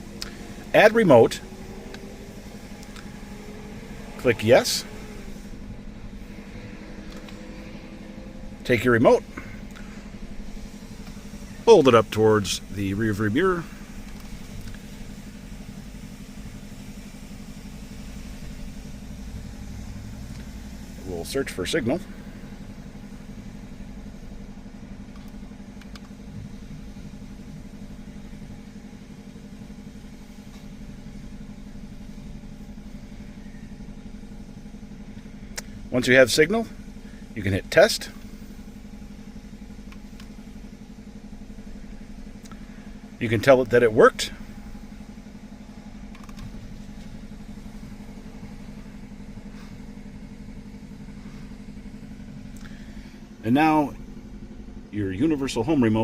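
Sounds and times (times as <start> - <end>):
car engine idling: 0.0 - 56.0
motor humming: 0.0 - 56.0.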